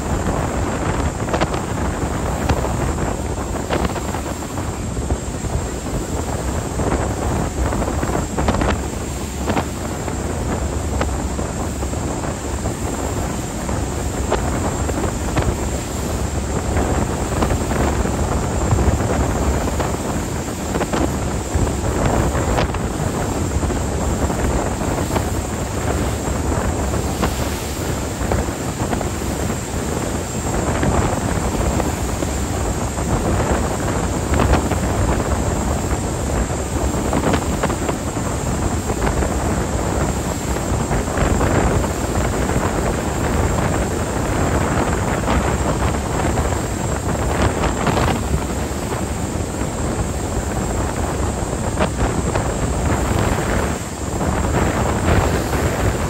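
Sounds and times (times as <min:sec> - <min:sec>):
boat running: 0:00.0 - 0:56.0
rush of water: 0:00.0 - 0:56.0
wind buffeting microphone: 0:00.0 - 0:56.0.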